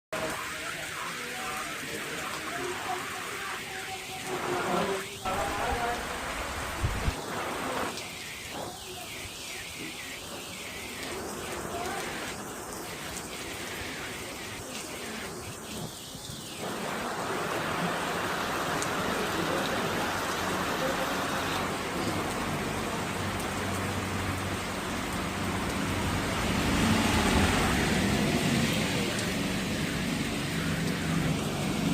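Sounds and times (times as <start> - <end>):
steady rain falling: 0.1 - 31.9.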